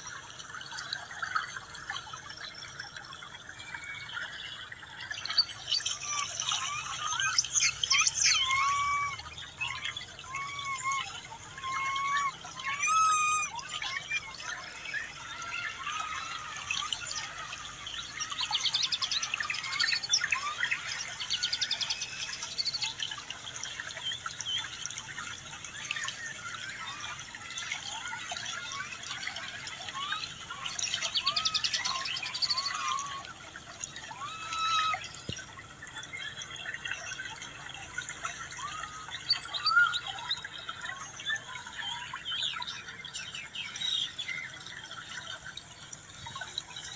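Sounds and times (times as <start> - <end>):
birds chirping and calling: 0.8 - 45.4.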